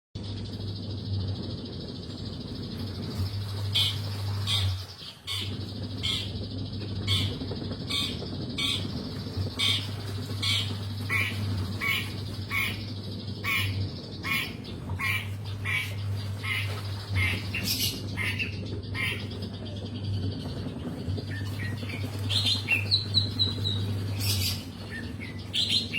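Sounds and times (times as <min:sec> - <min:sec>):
steady low hum: 0:00.2 - 0:25.9
bird squawking: 0:03.2 - 0:19.8, 0:21.2 - 0:25.9.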